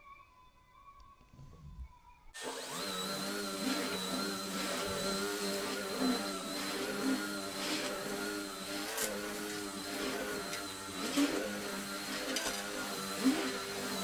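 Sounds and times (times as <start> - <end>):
vacuum cleaner running: 2.4 - 14.0.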